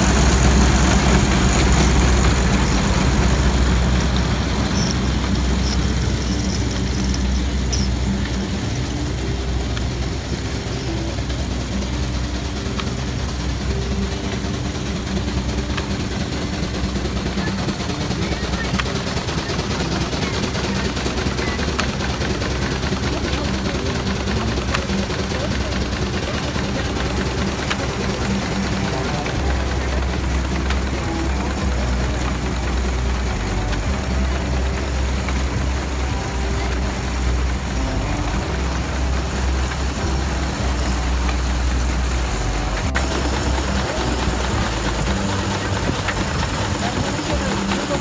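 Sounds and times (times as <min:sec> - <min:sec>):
belt-driven machinery clatter: 0:00.0 - 0:48.0
steam engine exhaust beats: 0:00.0 - 0:48.0.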